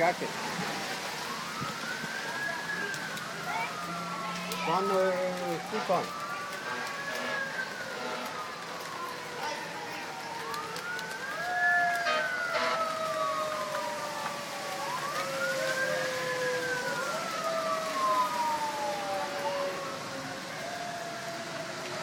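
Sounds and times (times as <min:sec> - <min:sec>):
emergency vehicle sirens wailing: 0:00.0 - 0:22.0.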